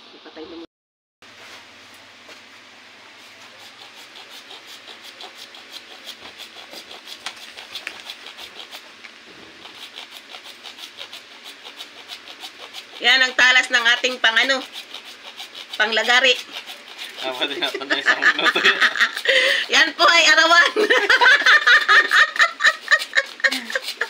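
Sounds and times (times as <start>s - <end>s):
hacksaw blade sawing plastic pipe: 3.4s - 24.0s.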